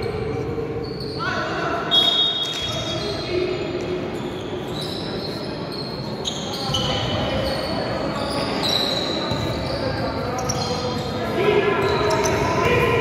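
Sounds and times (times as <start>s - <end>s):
echoing hall noise: 0.0s - 13.0s
shoe squeaks: 0.8s - 12.7s.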